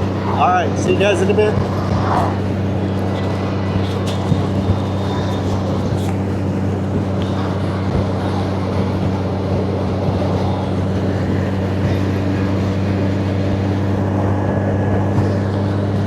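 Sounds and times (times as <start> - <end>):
motorcycle engine cruising: 0.0 - 16.0
road noise: 0.0 - 16.0
wind noise: 0.0 - 16.0.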